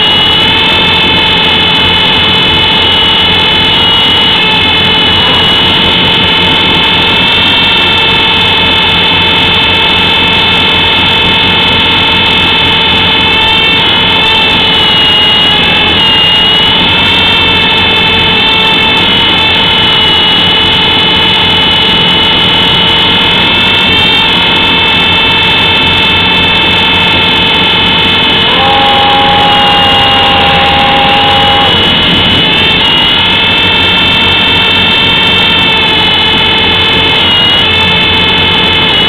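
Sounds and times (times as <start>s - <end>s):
toy helicopter motors whining: 0.0s - 39.0s.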